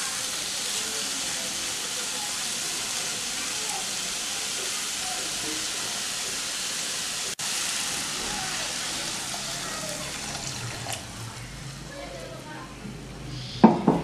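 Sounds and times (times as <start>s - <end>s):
vegetables sizzling in oil: 0.0s - 12.5s.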